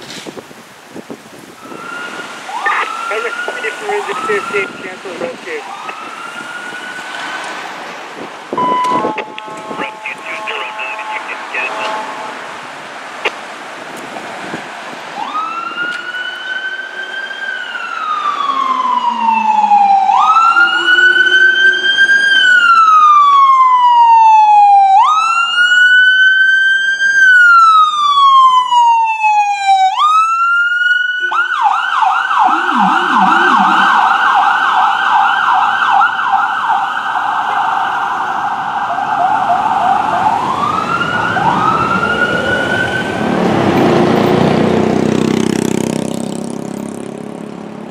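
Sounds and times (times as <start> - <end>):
fire engine siren: 1.6 - 7.6, 8.5 - 12.8, 15.1 - 44.6.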